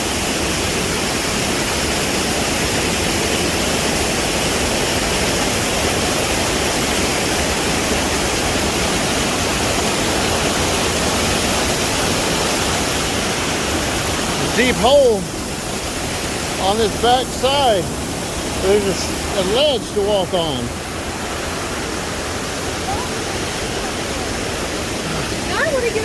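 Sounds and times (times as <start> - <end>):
river water rushing over rocks: 0.0 - 26.0.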